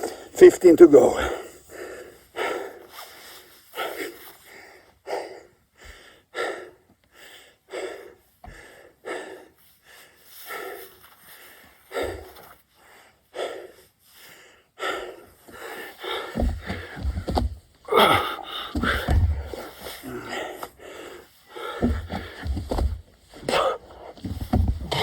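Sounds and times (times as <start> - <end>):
man breathing heavily: 0.0 - 25.0.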